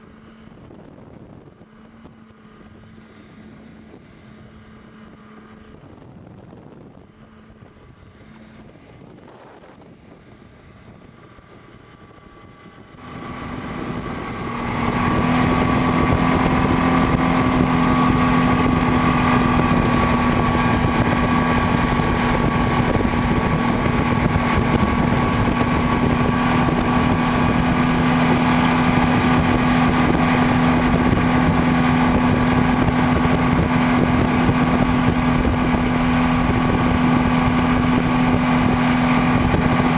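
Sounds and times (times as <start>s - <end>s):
outboard motor running: 0.0s - 39.9s
wind rushing: 5.6s - 39.9s
water rushing: 7.3s - 39.9s.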